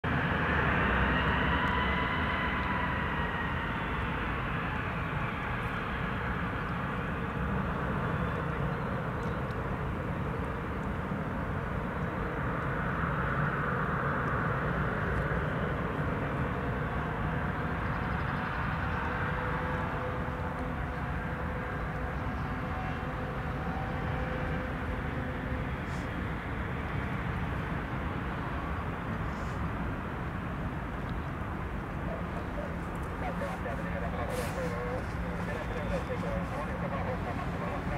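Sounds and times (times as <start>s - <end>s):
jet engines whining at low power: 0.0s - 37.9s.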